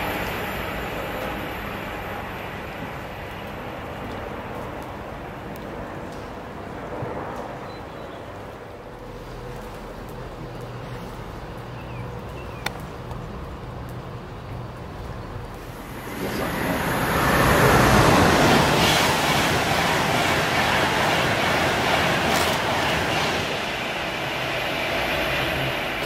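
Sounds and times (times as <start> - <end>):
train wheels rushing on rail: 0.0 - 14.2, 15.5 - 26.0.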